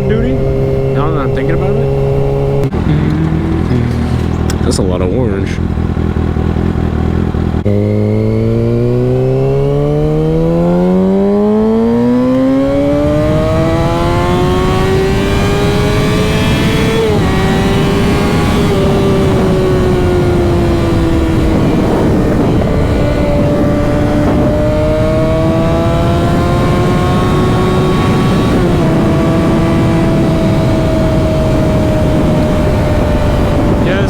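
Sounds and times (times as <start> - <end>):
rushing wind noise: 0.0 - 4.8, 8.6 - 34.0
motorcycle engine accelerating: 0.0 - 34.0.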